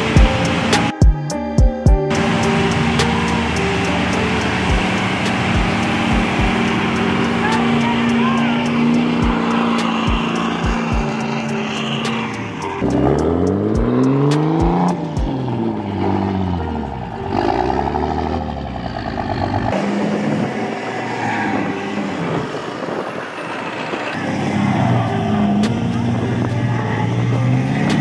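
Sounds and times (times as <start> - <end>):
truck engines revving: 0.0 - 1.0, 2.1 - 28.0
truck tyres spinning in sand: 2.1 - 28.0.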